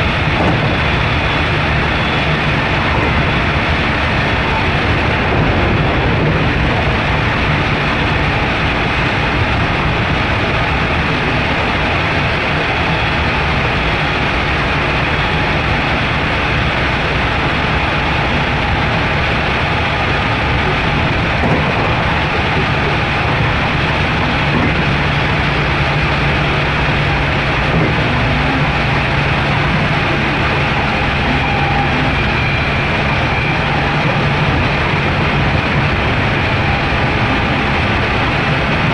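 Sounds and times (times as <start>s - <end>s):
traction motor hum: 0.0s - 38.9s
train wheels rumbling on rail: 0.0s - 38.9s.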